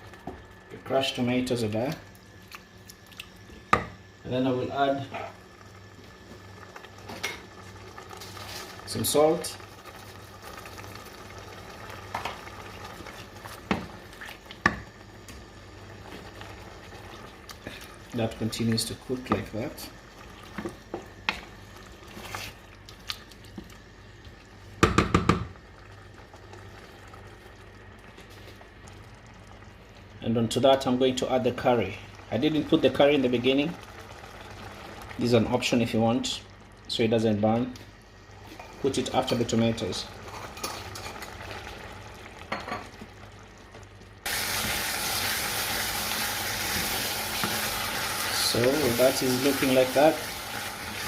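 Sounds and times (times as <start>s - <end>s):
frying sizzle: 3.5s - 51.0s
sauce simmering and bubbling: 4.9s - 51.0s.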